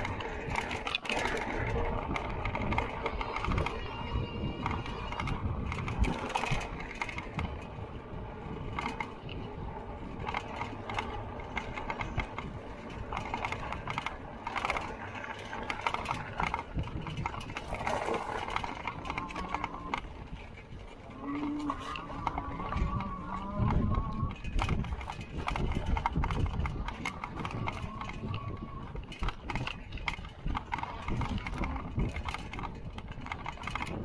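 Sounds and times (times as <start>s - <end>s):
bike frame rattling and clicking: 0.0s - 34.0s.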